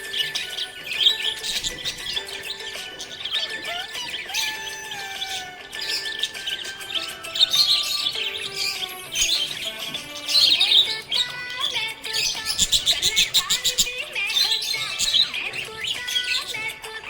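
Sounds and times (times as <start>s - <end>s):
budgerigars chirping and warbling: 0.0s - 17.0s
fast rattling chatter: 0.0s - 17.0s.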